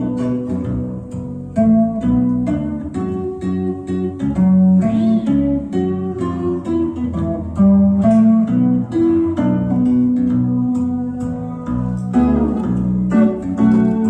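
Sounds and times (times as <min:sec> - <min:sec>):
tapped string bass and melody: 0:00.0 - 0:14.0.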